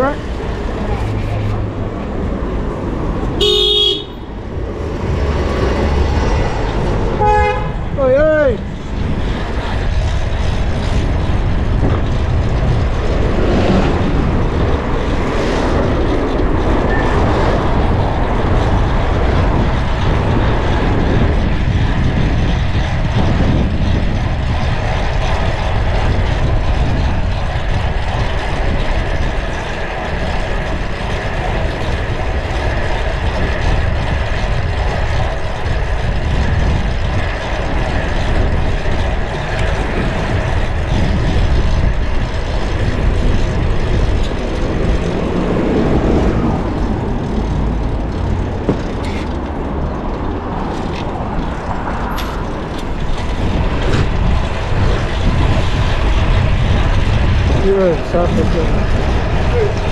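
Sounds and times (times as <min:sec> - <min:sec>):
city traffic noise: 0:00.0 - 0:59.9
wind on microphone: 0:00.0 - 0:59.9.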